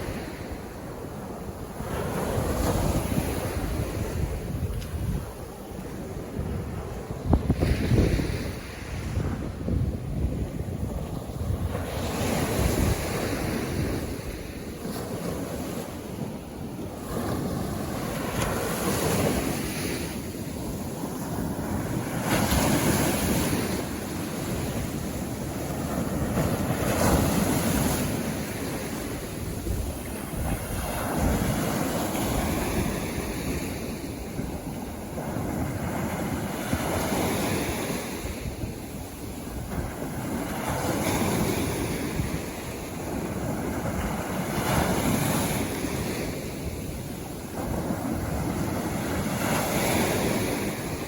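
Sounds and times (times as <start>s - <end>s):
sea waves breaking on beach: 0.0s - 51.0s
wind buffeting microphone: 0.0s - 51.0s.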